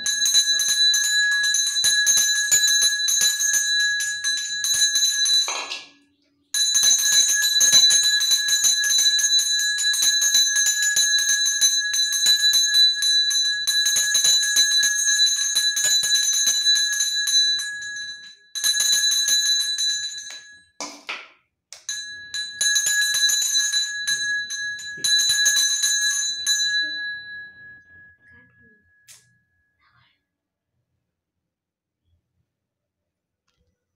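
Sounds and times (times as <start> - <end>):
small hand bell ringing: 0.0 - 20.8, 21.8 - 29.7.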